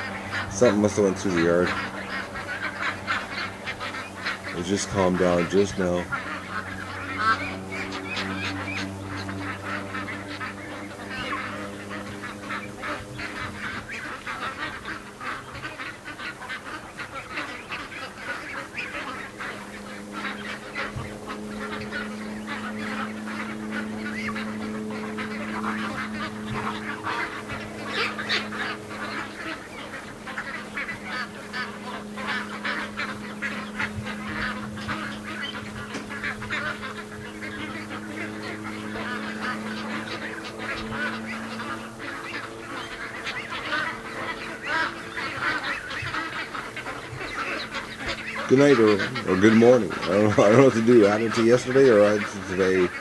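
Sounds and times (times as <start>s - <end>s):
ducks quacking: 0.0s - 53.0s
low hum: 0.0s - 53.0s.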